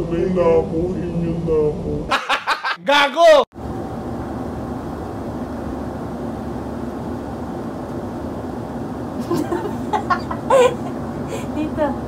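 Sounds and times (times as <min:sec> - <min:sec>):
low background rumble: 0:00.0 - 0:02.2, 0:03.6 - 0:12.0.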